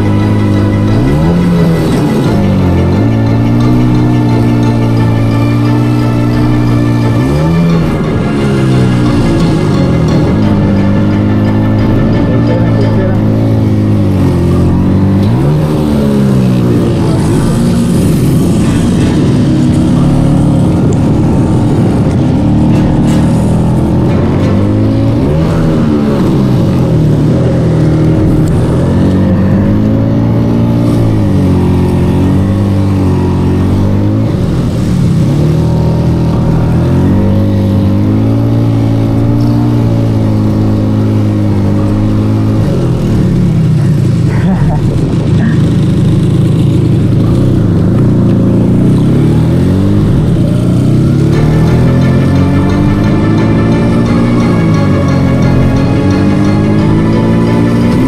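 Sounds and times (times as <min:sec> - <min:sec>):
scooter engine revving: 0:00.0 - 0:58.0.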